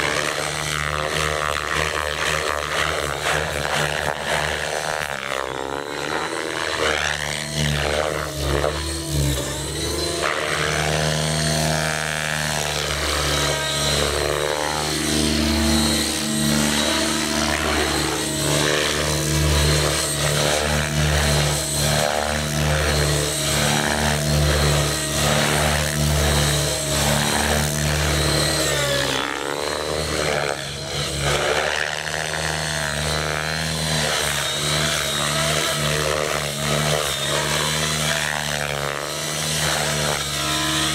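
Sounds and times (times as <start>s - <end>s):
rc helicopter buzzing whine: 0.0s - 40.9s.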